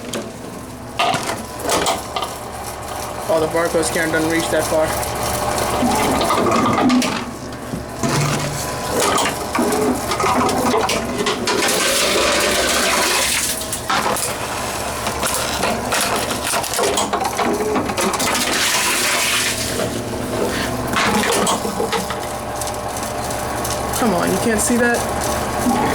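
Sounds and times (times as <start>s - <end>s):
plastic bottles rattling in machine: 0.0s - 25.9s.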